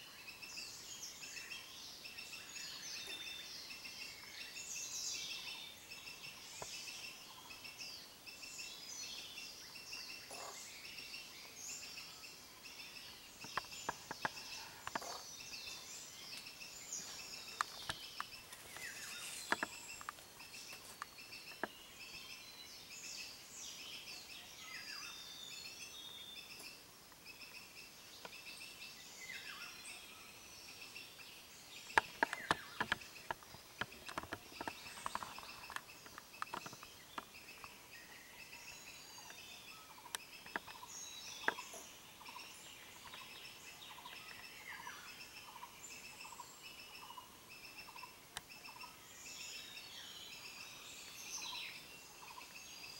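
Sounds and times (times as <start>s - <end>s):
jungle birds chirping: 0.0s - 52.9s.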